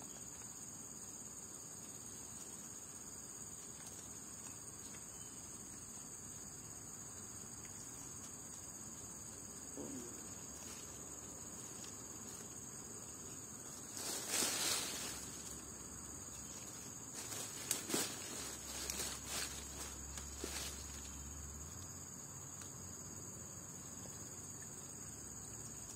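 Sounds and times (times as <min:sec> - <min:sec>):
high-pitched insect chorus: 0:00.0 - 0:25.9.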